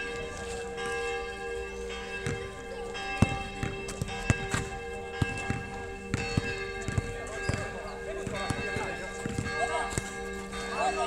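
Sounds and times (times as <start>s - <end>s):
steady ringing tones: 0.0s - 11.0s.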